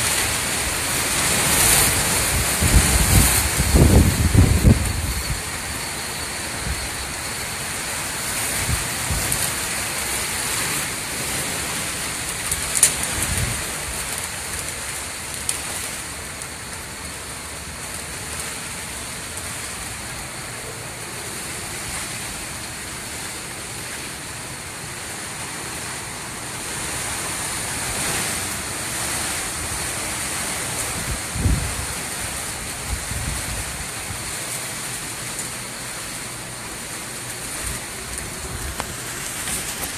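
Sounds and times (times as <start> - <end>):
wind and rain rushing: 0.0 - 39.9.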